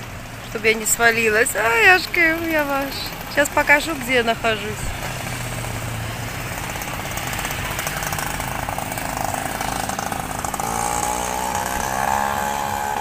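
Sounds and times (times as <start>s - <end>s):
droning engine: 1.6s - 13.0s
engine running with rapid pulse: 1.6s - 13.0s.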